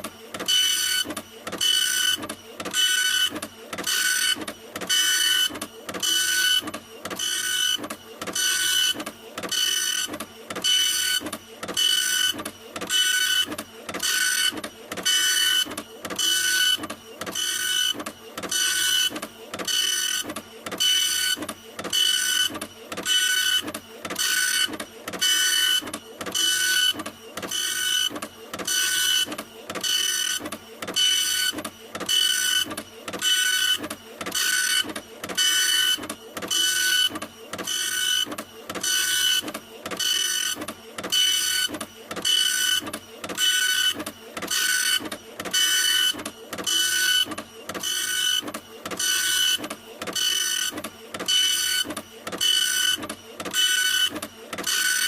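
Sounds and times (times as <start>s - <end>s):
printer head whirring: 0.0s - 55.0s.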